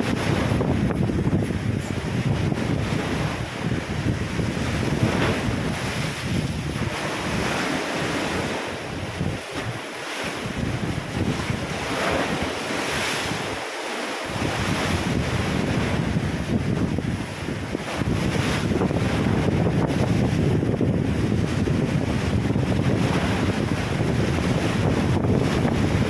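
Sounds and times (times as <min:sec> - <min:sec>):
wind buffeting microphone: 0:00.0 - 0:13.6, 0:14.3 - 0:26.0
ocean waves splashing: 0:00.0 - 0:26.0.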